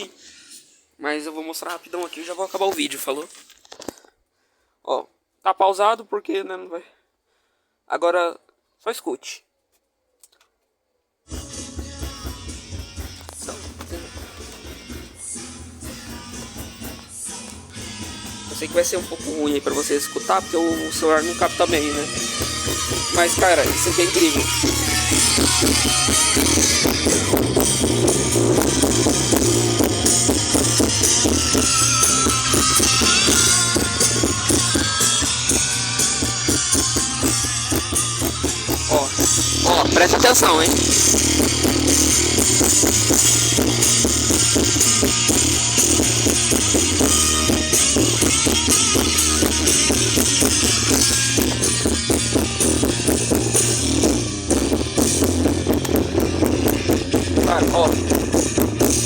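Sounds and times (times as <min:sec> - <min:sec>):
heavy bass: 0:11.3 - 0:59.0
rock music through car stereo: 0:11.3 - 0:59.0.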